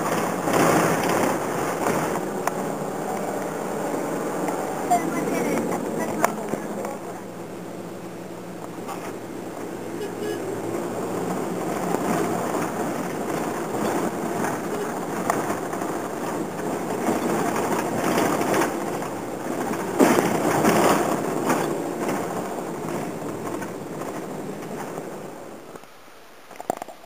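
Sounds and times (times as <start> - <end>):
thumps from road bumps: 0.0 - 7.1, 8.5 - 25.8
vehicle road and engine noise: 0.0 - 27.0.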